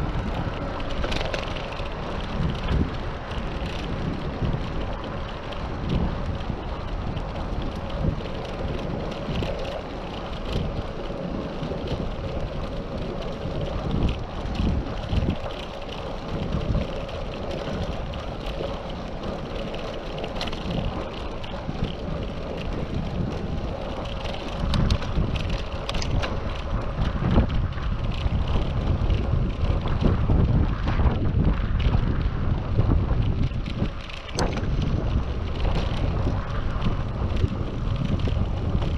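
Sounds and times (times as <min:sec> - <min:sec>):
small clicks and rattles: 0:00.0 - 0:38.9
tyres rumbling on road: 0:00.0 - 0:38.9
wind buffeting microphone: 0:00.0 - 0:38.9.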